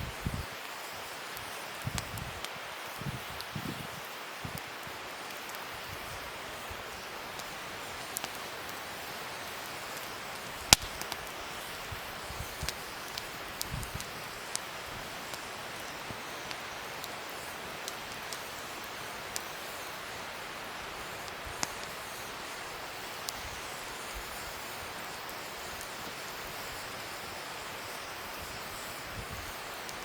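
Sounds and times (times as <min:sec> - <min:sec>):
burning wood crackles and pops: 0:00.0 - 0:30.0
fire hissing: 0:00.0 - 0:30.0.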